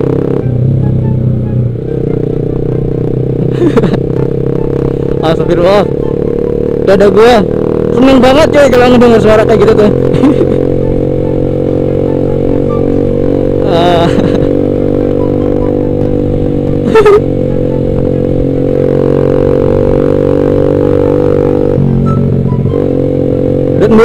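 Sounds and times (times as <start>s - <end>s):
scooter engine droning: 0.0s - 24.0s.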